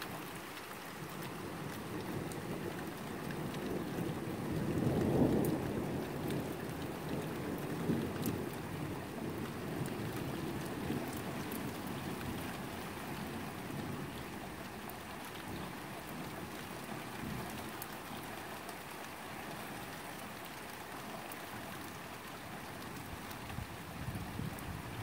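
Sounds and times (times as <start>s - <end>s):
rain hiss: 0.0s - 25.0s
raindrops ticking on surfaces: 0.0s - 25.0s.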